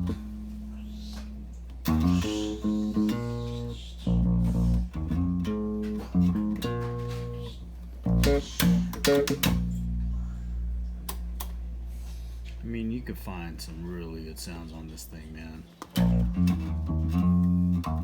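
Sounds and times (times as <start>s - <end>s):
electric bass guitar notes: 0.0s - 14.5s, 15.9s - 18.0s
steady low hum: 0.0s - 18.0s.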